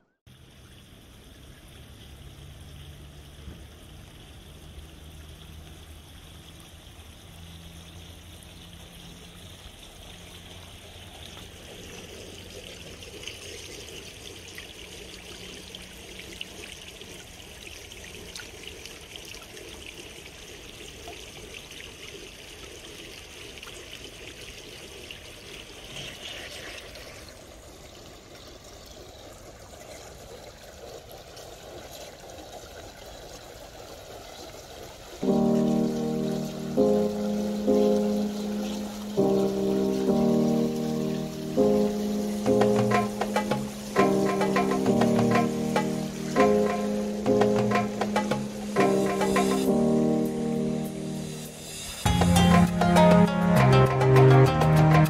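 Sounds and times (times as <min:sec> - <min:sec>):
fountain water splashing: 0:00.3 - 0:55.0.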